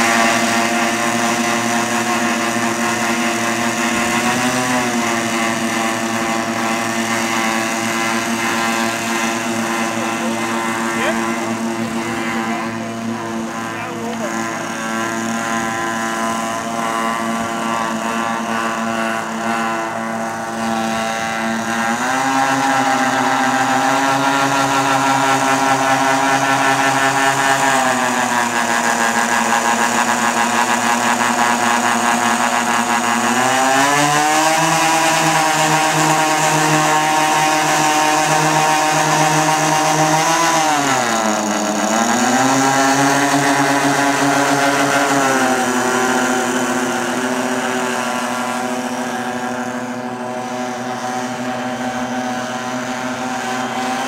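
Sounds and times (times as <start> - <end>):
model aircraft engines droning: 0.0 - 54.0.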